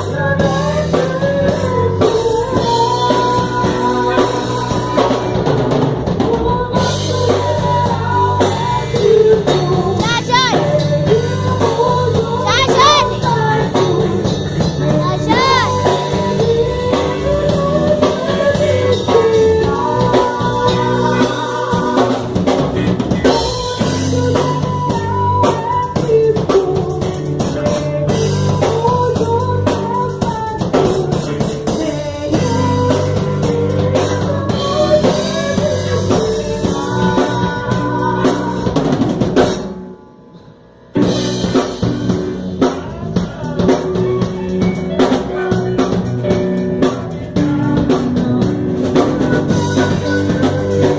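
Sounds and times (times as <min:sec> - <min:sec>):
drum kit beat: 0:00.0 - 0:39.9, 0:41.0 - 0:50.9
live band playing a hymn: 0:00.0 - 0:50.9.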